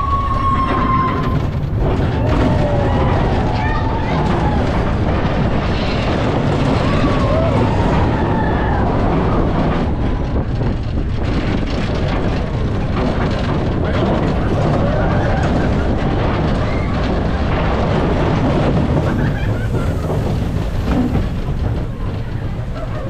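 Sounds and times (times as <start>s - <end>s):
roller coaster wheels rumbling on rails: 0.0s - 23.0s
wind rushing: 0.0s - 23.0s.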